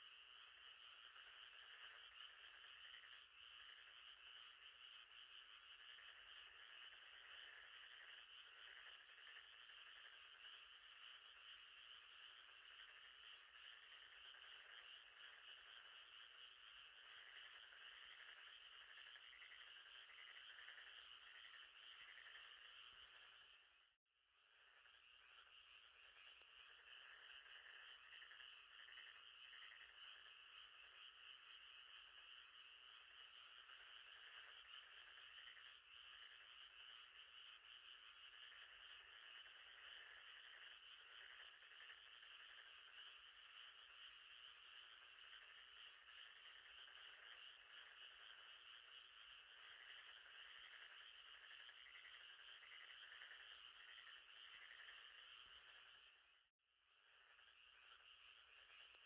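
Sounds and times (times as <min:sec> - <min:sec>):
frogs trilling: 0:00.0 - 0:59.0.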